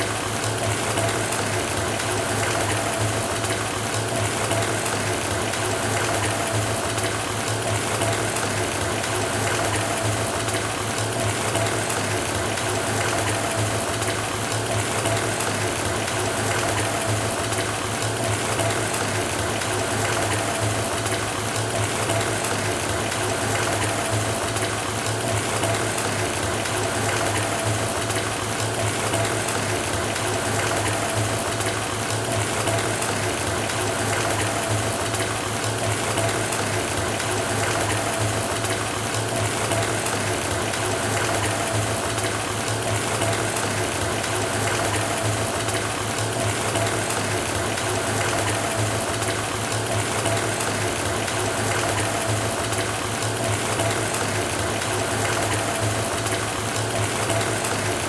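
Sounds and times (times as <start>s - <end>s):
faucet water pouring into tub: 0.0s - 58.0s.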